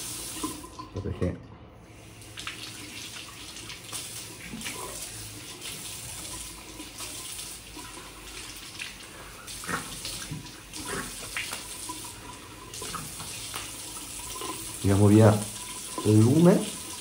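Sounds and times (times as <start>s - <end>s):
water splashing: 2.0s - 17.0s.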